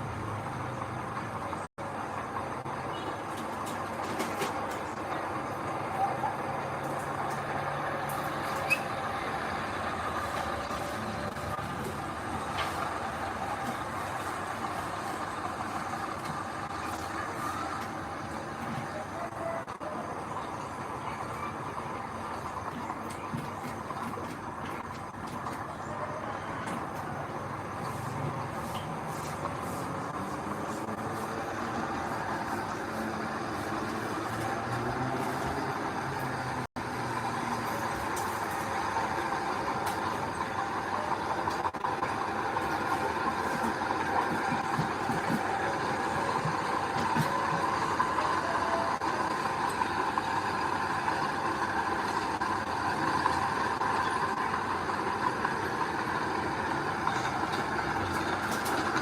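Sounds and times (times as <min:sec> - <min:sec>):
diesel machinery running: 0:00.0 - 0:59.0.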